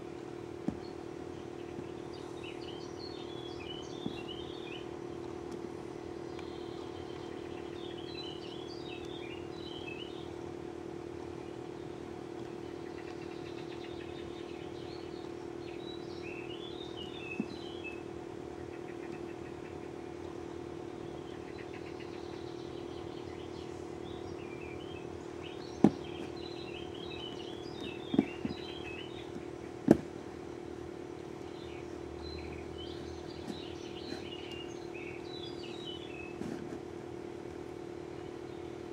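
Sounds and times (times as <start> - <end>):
small birds chirping: 0.0 - 38.9
steady hum: 0.0 - 38.9.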